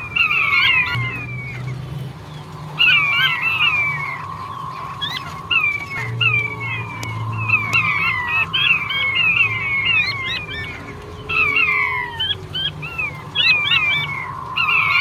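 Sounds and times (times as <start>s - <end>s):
quail calling high whistled notes: 0.0s - 15.0s.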